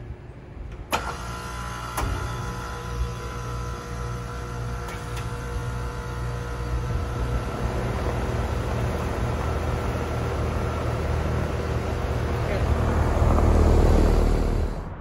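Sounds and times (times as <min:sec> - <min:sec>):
air-conditioning equipment hum: 0:00.0 - 0:14.7.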